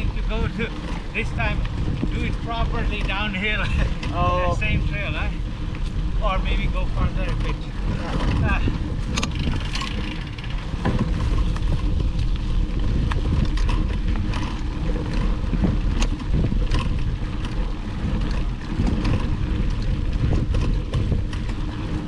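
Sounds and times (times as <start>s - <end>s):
bike clicking and rattling: 0.0s - 22.0s
wind rumble on microphone: 0.0s - 22.0s.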